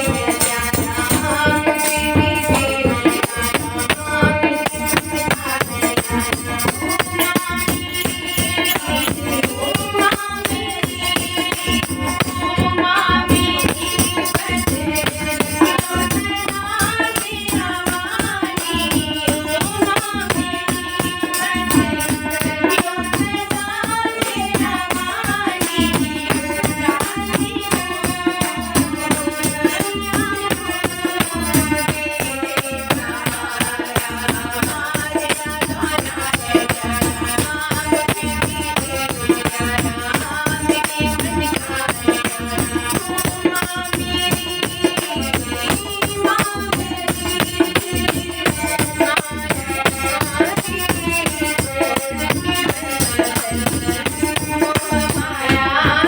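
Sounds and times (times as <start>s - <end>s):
hand percussion with rattles: 0.0s - 56.0s.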